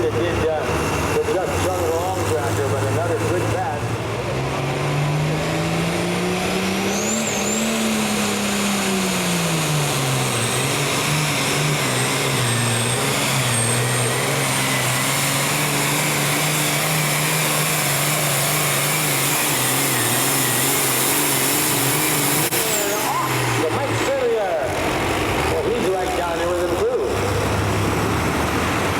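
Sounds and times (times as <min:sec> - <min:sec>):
vehicle engine running under load: 0:00.0 - 0:28.9.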